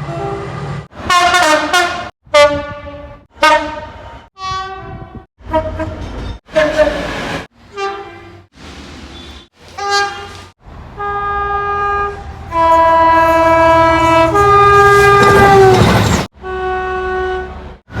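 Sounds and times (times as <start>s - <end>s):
passing train noise: 0.0s - 4.2s, 4.8s - 18.0s
train two-tone horn: 1.1s - 7.0s, 7.7s - 8.5s, 9.2s - 17.7s.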